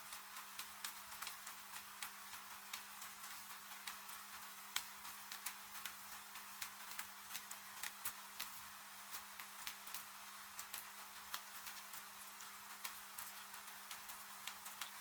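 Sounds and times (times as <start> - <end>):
rain falling: 0.0 - 15.0
wood fire crackling and popping: 0.0 - 15.0.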